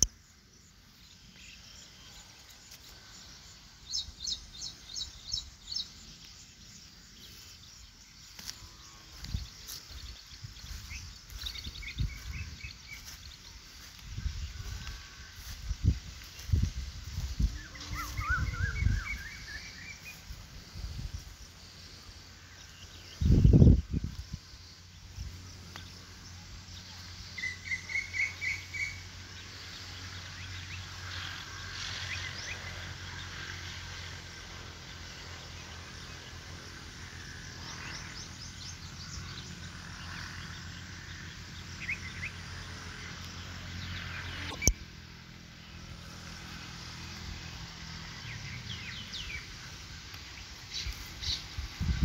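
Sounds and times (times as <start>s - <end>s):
small birds chirping: 0.0s - 52.0s
steady low hum: 0.0s - 52.0s.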